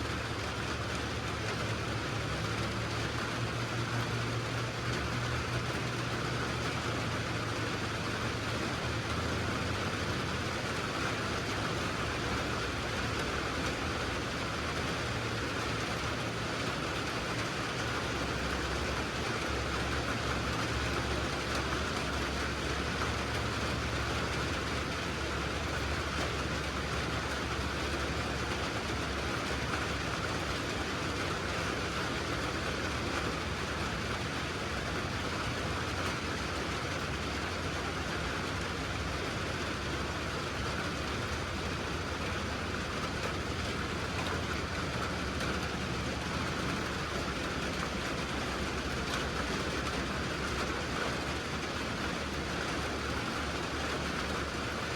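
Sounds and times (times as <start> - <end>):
rain hissing: 0.0 - 54.9
vehicle engine running: 0.0 - 54.9.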